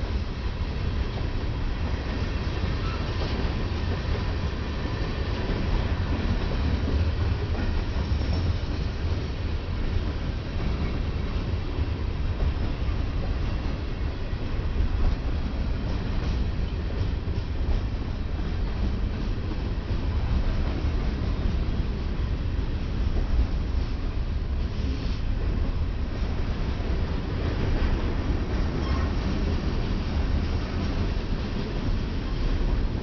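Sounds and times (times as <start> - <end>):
freight train rumbling: 0.0 - 33.0.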